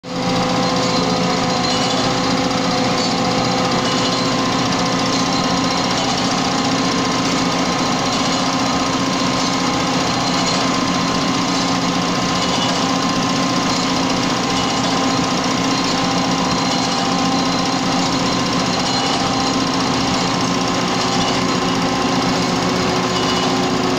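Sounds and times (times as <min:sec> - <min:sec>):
industrial grinding machine noise: 0:00.0 - 0:23.9.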